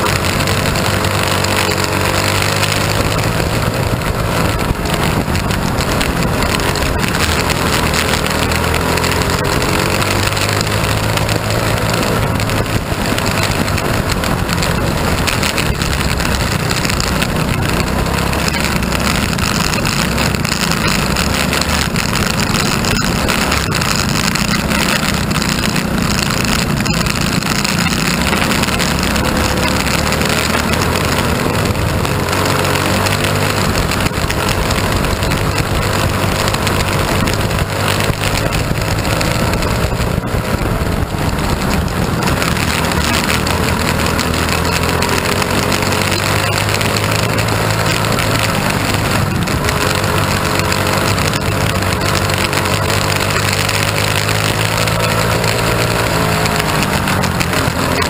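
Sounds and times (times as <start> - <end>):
race car engine running hard: 0.0 - 58.0
wind on microphone: 0.0 - 58.0.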